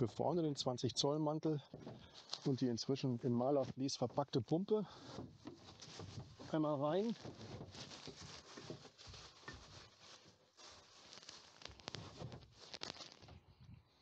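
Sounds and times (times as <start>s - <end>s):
rustling and scraping: 1.7s - 13.7s.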